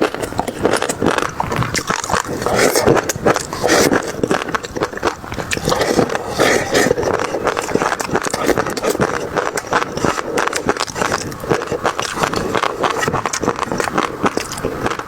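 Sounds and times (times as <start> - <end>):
person chewing and crunching: 0.0 - 15.0
wet mouth clicks: 0.0 - 15.0.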